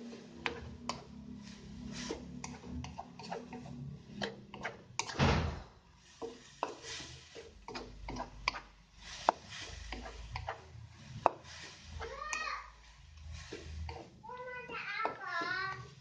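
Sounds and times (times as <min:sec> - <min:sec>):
wooden spatula scraping wok: 0:00.0 - 0:16.0.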